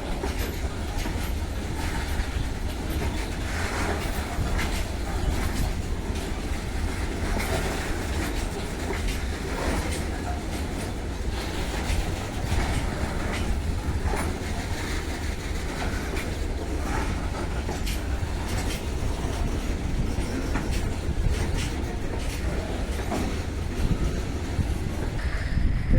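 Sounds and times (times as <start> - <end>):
low rumble of train: 0.0 - 25.9
train wheels clacking over rail joints: 0.0 - 25.9.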